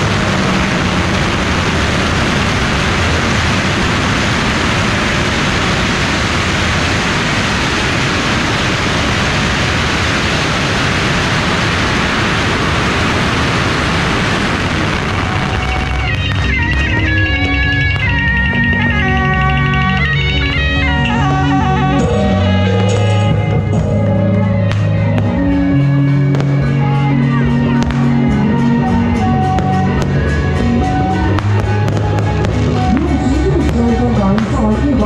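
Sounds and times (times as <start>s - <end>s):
firecrackers crackling: 0.0s - 35.0s.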